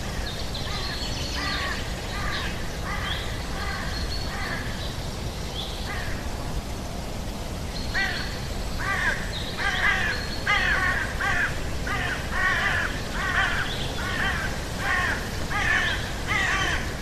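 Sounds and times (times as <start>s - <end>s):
bird calling: 0.0s - 5.0s, 7.9s - 17.0s.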